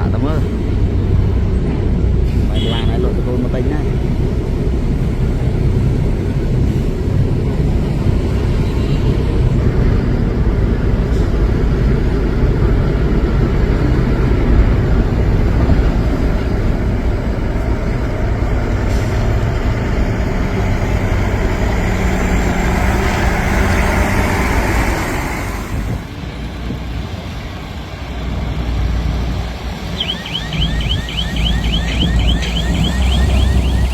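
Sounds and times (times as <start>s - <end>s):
diesel excavator running: 0.0s - 33.9s.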